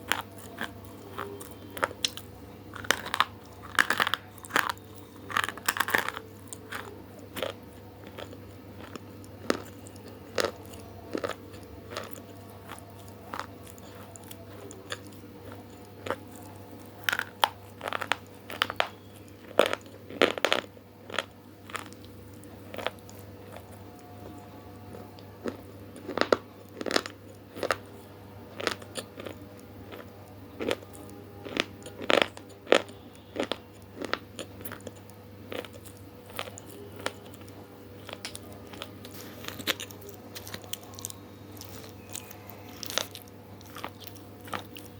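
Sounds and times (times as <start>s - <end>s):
crunchy food chewing: 0.0s - 44.9s
faint steady hum: 0.0s - 44.9s.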